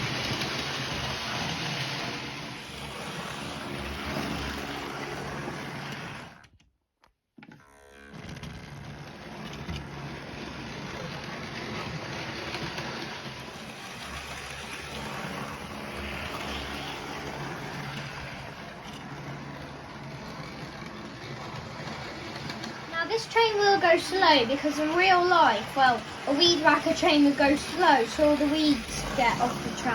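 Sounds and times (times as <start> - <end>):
model train wheels rumbling: 0.0 - 6.5, 8.1 - 29.9.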